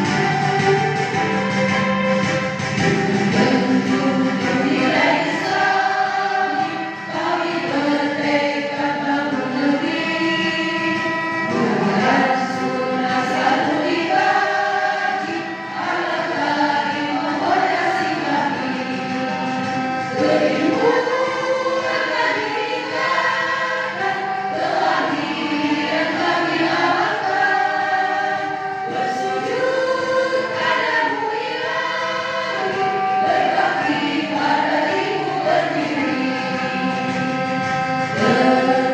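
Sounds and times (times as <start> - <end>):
group singing a march song: 0.0 - 38.9.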